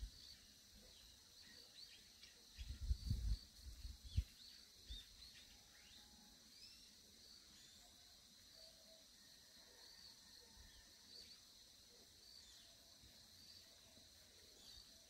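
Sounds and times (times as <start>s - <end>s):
small birds chirping: 0.0s - 9.0s, 11.1s - 15.0s
high insect drone: 0.0s - 15.0s.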